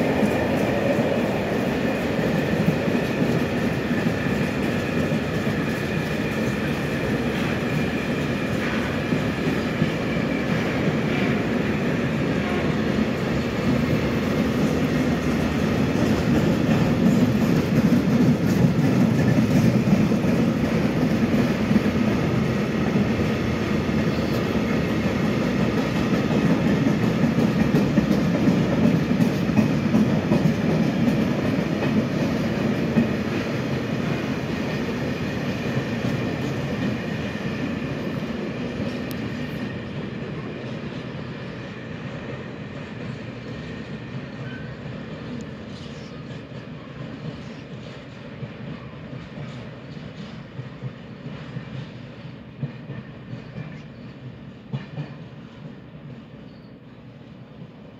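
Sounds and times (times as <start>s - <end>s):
freight train wheels clacking: 0.0s - 57.9s.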